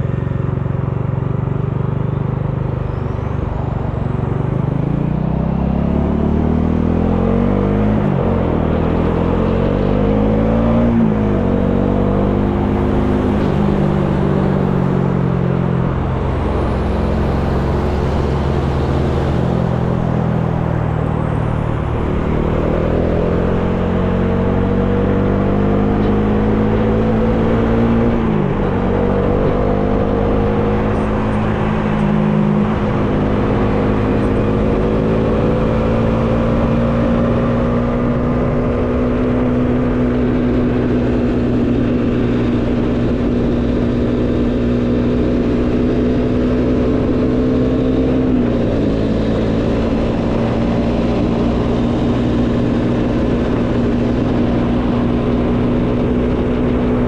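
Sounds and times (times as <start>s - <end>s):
motorcycle engine revving: 2.1s - 57.0s.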